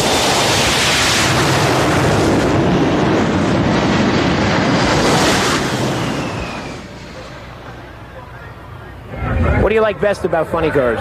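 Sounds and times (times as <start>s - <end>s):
falling whine: 0.0s - 10.7s
jet engine roar: 0.0s - 11.0s.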